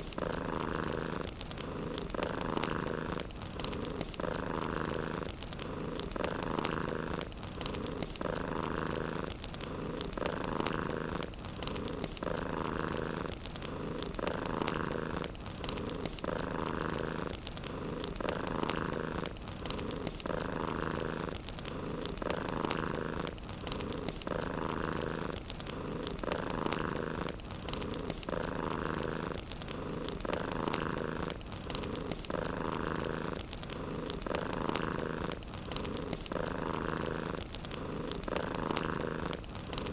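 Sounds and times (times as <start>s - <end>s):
cat purring: 0.0s - 39.9s
wood fire crackling: 0.0s - 39.9s.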